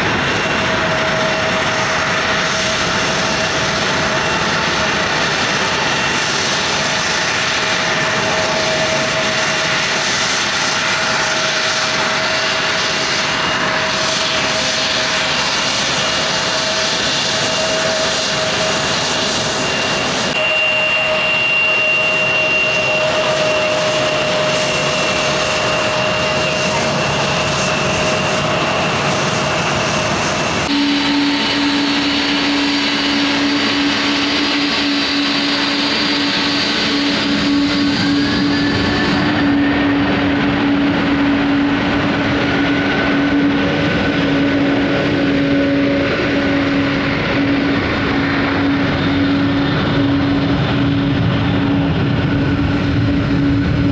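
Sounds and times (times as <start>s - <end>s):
airliner engines whining: 0.0s - 53.9s.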